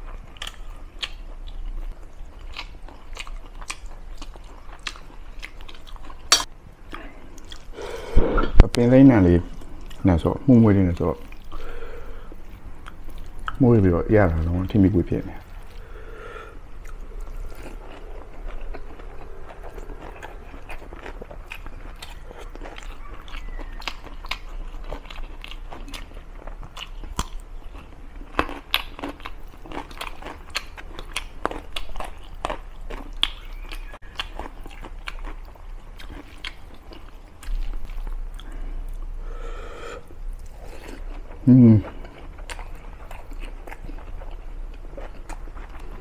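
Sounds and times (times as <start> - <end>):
person chewing food: 0.0 - 8.7, 9.5 - 46.0.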